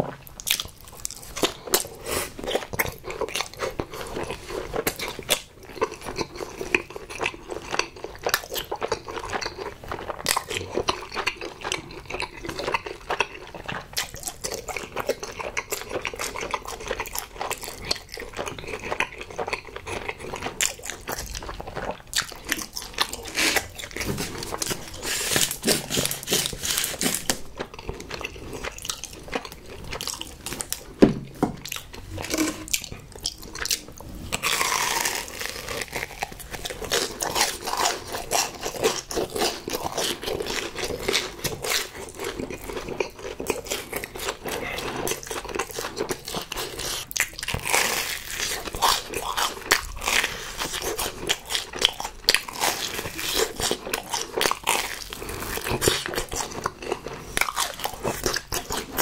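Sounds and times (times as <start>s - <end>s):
chewing rice cakes: 0.0s - 31.0s, 31.6s - 59.0s.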